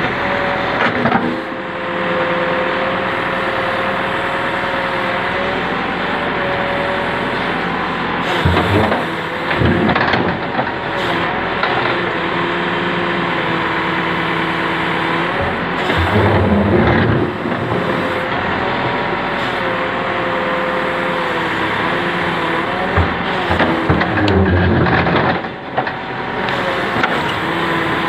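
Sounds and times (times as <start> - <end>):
earth-moving machine diesel engine: 0.0 - 28.0.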